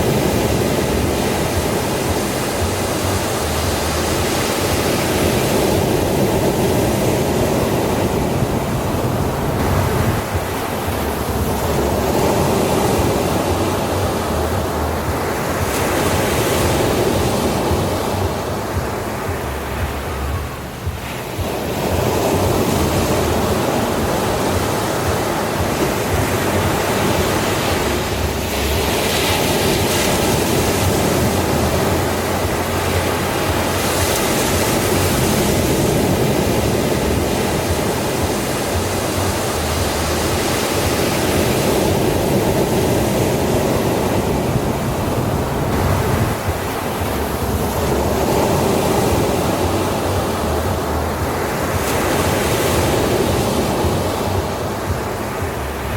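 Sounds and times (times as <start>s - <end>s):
ocean waves breaking on beach: 0.0s - 55.9s.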